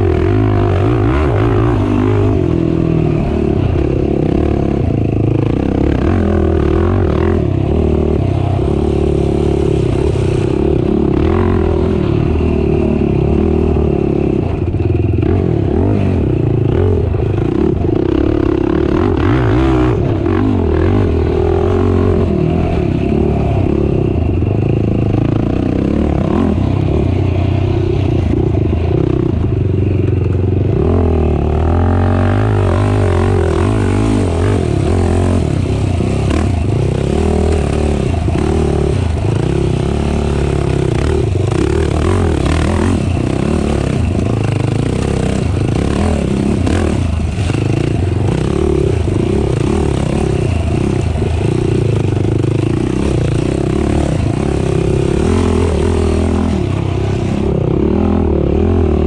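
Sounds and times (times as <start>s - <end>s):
atv engine revving: 0.0s - 59.0s
clatter and scraping over rough ground: 0.0s - 59.0s.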